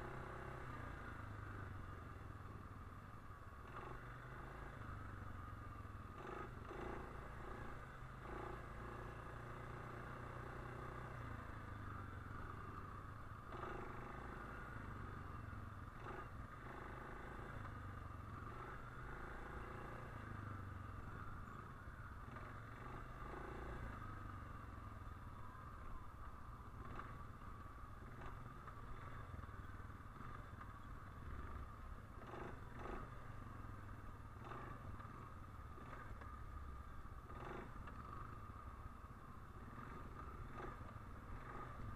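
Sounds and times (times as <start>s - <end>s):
engine rumbling: 0.0s - 41.9s.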